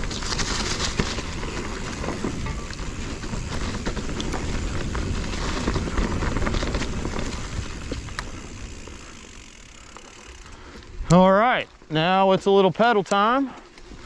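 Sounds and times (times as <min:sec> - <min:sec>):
bike rattling clicks: 0:00.0 - 0:12.0, 0:12.8 - 0:14.0
tyres crunching on stones: 0:00.0 - 0:14.0.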